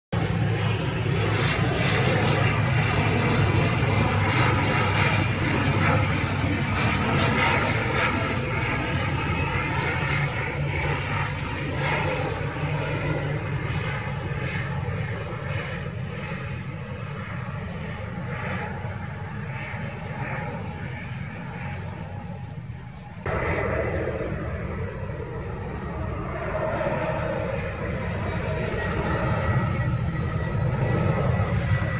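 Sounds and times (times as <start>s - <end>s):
turboprop plane droning: 0.1s - 31.9s.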